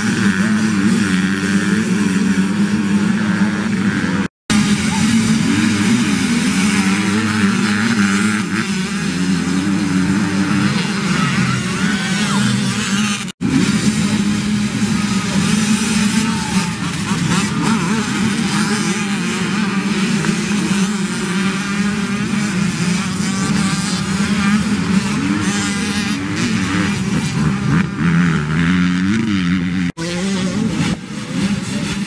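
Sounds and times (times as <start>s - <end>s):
dirt bikes revving: 0.0s - 32.0s.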